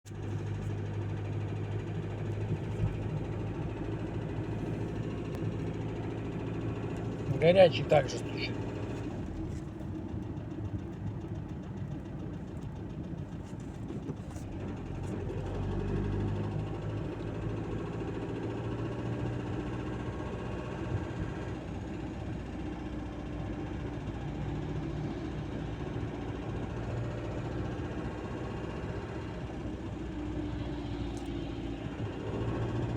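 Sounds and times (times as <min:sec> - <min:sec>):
diesel engine knocking: 0:00.1 - 0:32.9.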